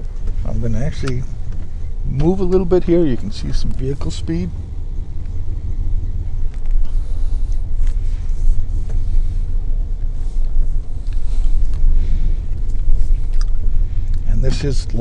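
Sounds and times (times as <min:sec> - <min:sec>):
engine and road rumble in cab: 0:00.0 - 0:15.0.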